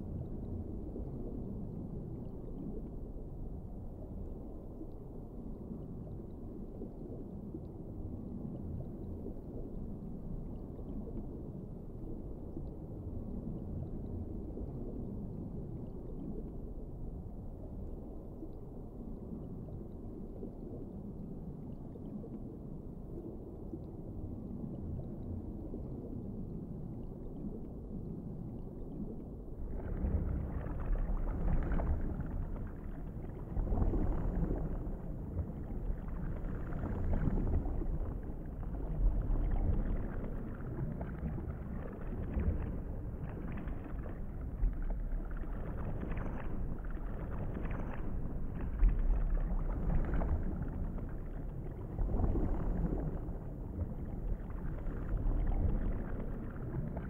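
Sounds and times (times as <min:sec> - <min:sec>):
muffled underwater rushing: 0:00.0 - 0:57.0.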